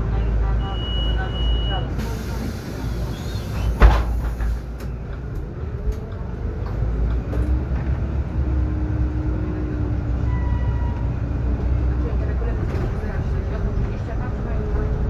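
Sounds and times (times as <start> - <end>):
bus interior rumble: 0.0 - 15.0
bus motor whine: 0.0 - 15.0.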